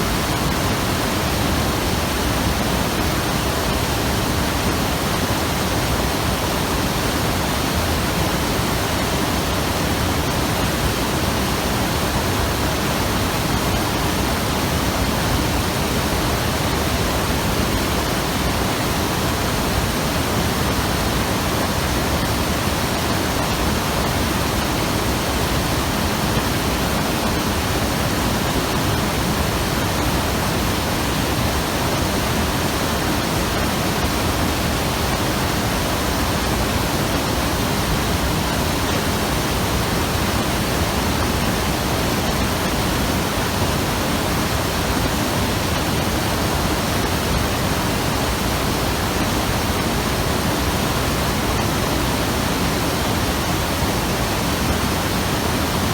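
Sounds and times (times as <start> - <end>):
river water rushing over rocks: 0.0 - 55.9.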